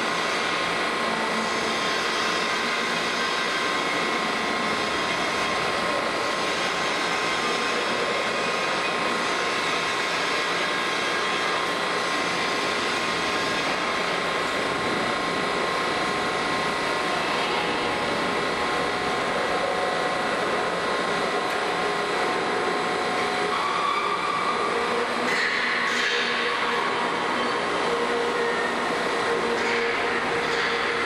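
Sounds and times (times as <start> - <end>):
high mechanical whine: 0.0 - 31.0.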